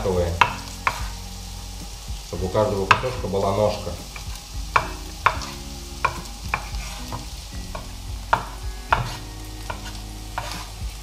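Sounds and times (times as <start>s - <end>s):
vegetables sizzling in pan: 0.0s - 11.0s.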